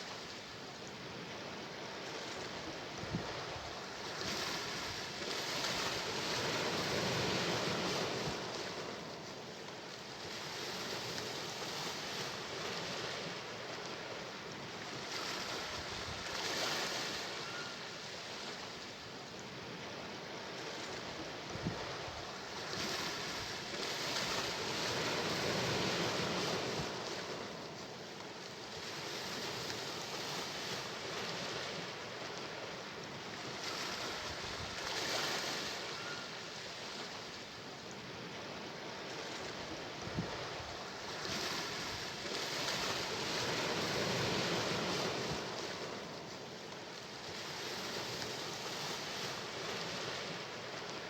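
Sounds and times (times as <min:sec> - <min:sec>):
sea waves washing ashore: 0:00.0 - 0:51.0.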